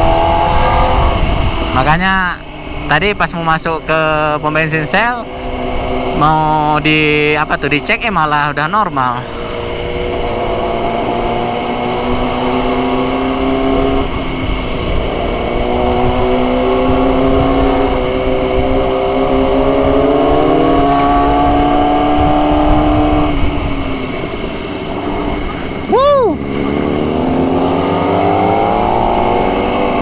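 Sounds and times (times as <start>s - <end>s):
motorcycle engine running: 0.0s - 30.0s
wind and road rumble: 0.0s - 30.0s.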